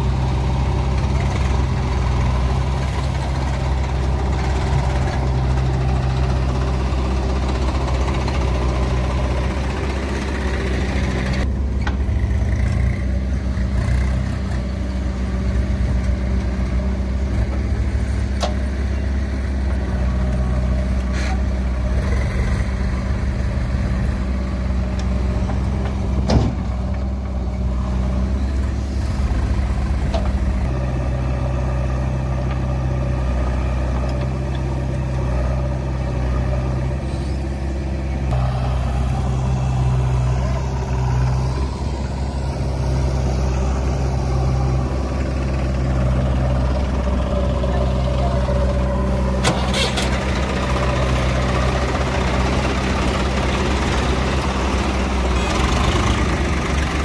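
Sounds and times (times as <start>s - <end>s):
diesel engines running: 0.0s - 57.0s
backhoe digging soil: 0.1s - 22.5s, 24.7s - 57.0s.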